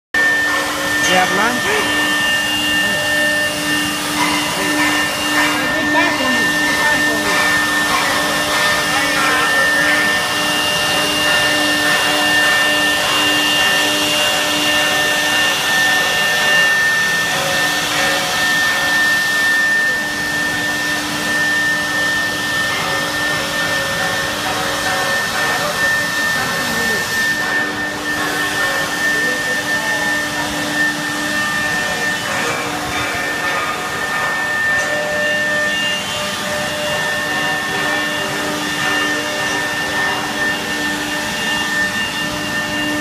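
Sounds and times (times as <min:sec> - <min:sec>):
router spindle whine: 0:00.2 - 0:43.0.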